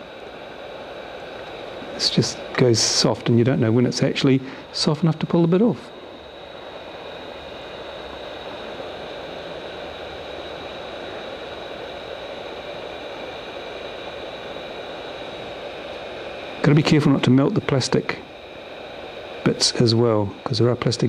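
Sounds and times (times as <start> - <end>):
hot air blower hissing: 0.0 - 21.0.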